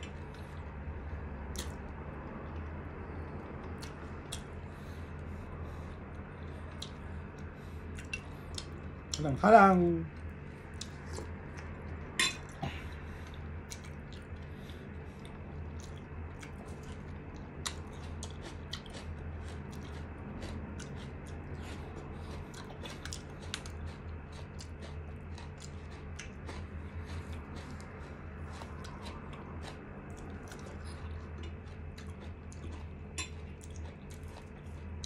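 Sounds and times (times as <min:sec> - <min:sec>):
person chewing chicken: 0:00.0 - 0:35.0.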